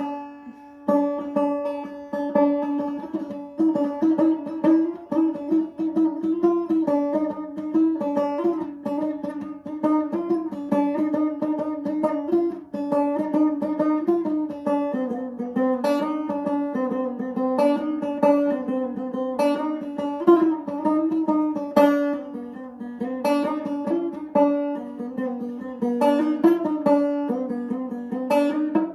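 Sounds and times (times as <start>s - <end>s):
banjo plucked notes: 0.0s - 28.9s.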